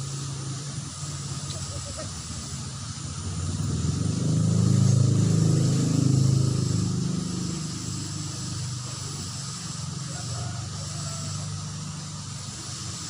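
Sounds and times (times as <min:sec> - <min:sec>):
steady background hiss: 0:00.0 - 0:13.0
vehicle passing by: 0:00.8 - 0:13.0.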